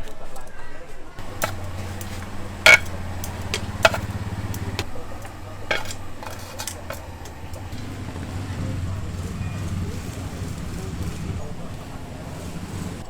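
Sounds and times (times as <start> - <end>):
dishes and utensils clinking: 1.2 - 13.0
low engine hum: 1.2 - 13.0.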